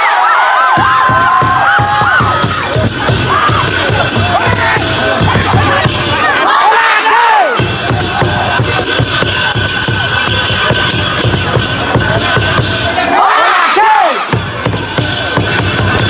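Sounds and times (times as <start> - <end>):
crowd noise: 0.0 - 16.0
festival drumming: 0.7 - 6.5, 7.5 - 16.0.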